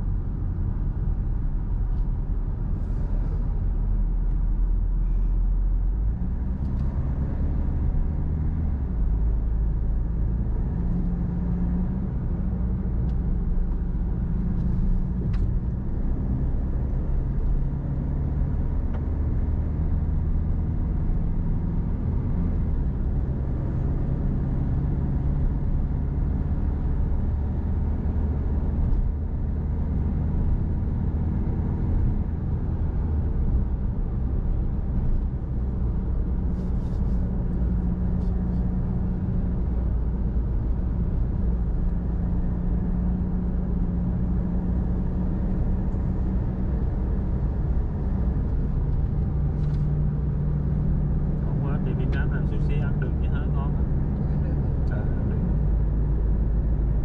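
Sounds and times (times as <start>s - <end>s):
car engine hum: 0.0s - 57.0s
road and tyre noise: 0.0s - 57.0s.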